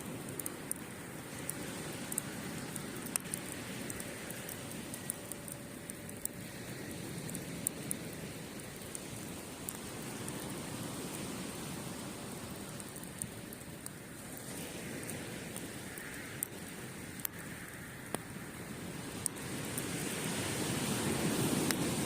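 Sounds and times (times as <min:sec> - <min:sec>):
waves on the shore: 0:00.0 - 0:22.0
wood fire crackling: 0:00.0 - 0:22.0.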